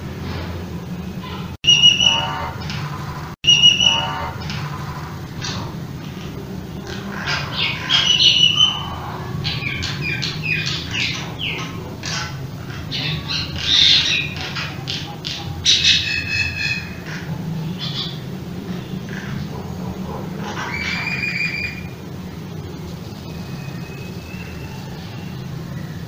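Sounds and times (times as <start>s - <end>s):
birds chirping: 0.0s - 26.0s
harsh bird calls: 1.0s - 26.0s.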